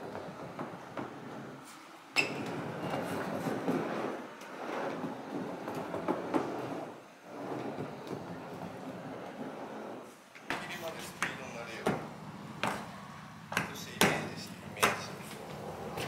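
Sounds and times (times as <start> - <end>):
skateboard wheels rolling on ramp: 0.0 - 1.7, 2.3 - 16.0.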